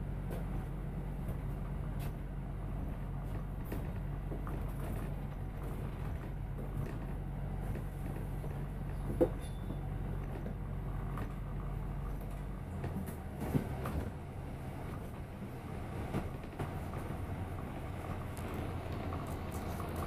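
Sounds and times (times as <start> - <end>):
bus body rattles: 0.0 - 20.0
bus engine hum: 0.0 - 20.0.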